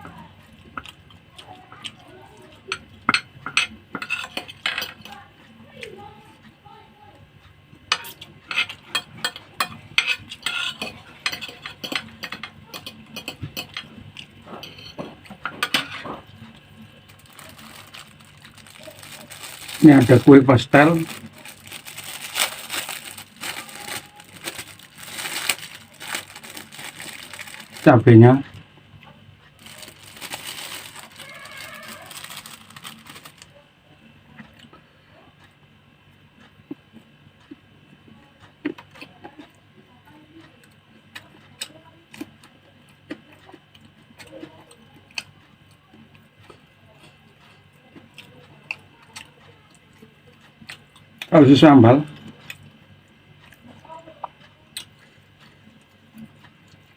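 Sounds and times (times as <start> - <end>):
crunching pastry being chewed: 0.0 - 5.4, 8.0 - 51.3, 52.0 - 56.9.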